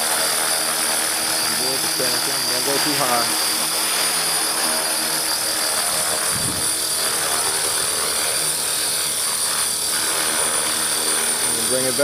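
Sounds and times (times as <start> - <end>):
rc helicopter rotor whine: 0.0 - 12.0.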